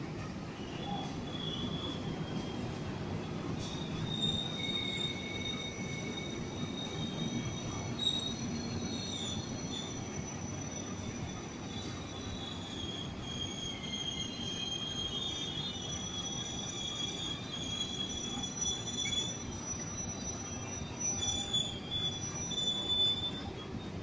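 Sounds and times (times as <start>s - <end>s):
train coaches rumbling: 0.0s - 24.0s
high-pitched wheel squeal: 0.6s - 2.8s, 3.4s - 24.0s.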